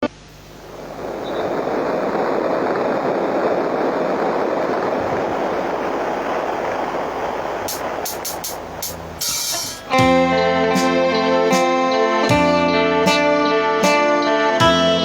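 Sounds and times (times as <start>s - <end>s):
loud steady rushing noise: 0.0s - 14.8s.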